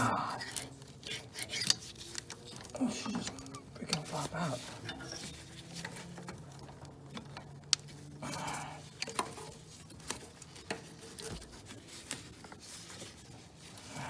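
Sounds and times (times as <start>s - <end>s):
tools and parts clicking and knocking: 0.0s - 13.3s
short rustle: 0.4s - 14.0s.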